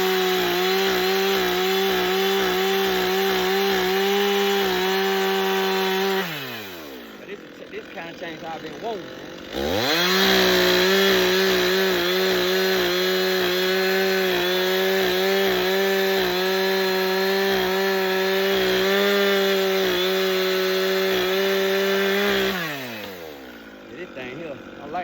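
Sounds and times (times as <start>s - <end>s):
chainsaw running at high speed: 0.0s - 25.0s.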